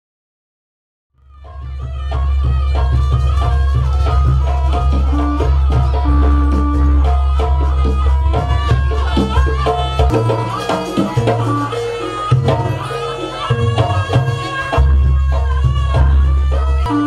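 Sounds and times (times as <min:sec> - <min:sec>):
hand drums: 0:01.2 - 0:17.0
held melody line: 0:01.4 - 0:17.0.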